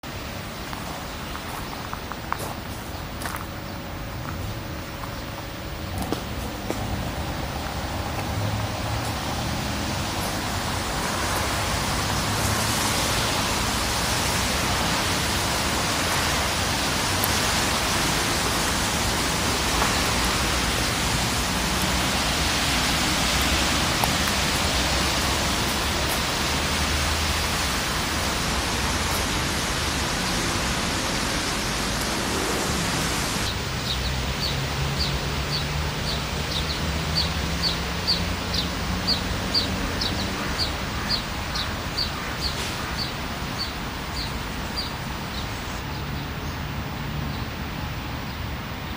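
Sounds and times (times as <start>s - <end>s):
light rain falling: 0.0s - 48.9s.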